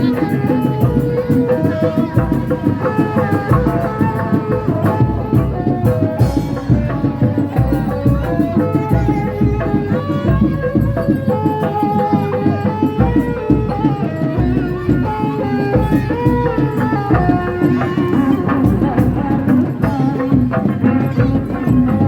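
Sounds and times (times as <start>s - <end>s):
melody of held notes: 0.0s - 20.2s
hand drums: 0.0s - 22.0s.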